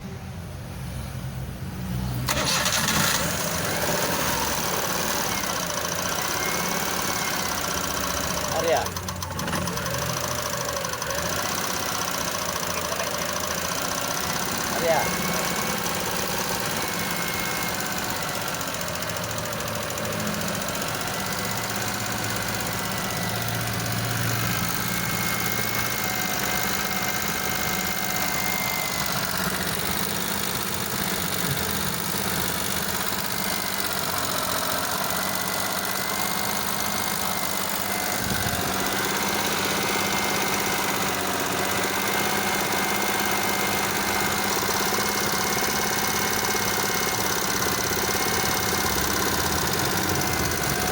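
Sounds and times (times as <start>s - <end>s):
engine idling: 2.3s - 50.9s.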